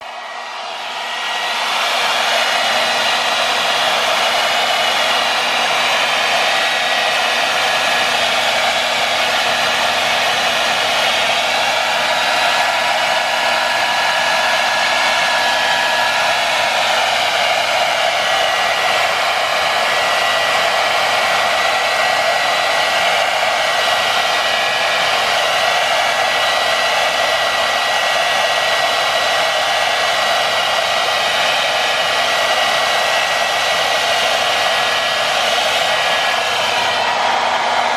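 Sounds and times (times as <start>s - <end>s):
hair dryer running: 0.0s - 37.9s.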